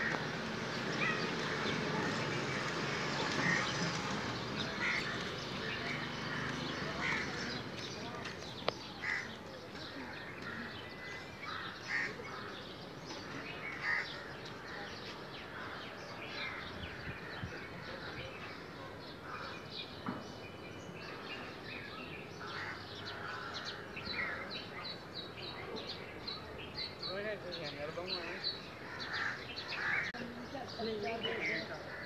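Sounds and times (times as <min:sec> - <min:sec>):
birds chirping and calling: 0:00.0 - 0:32.0
outdoor background noise: 0:00.0 - 0:32.0.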